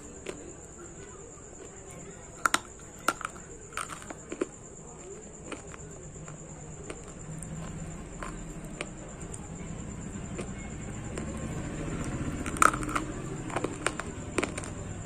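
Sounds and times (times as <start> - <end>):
crunching clay in mouth: 1.6 - 9.5, 10.2 - 15.0.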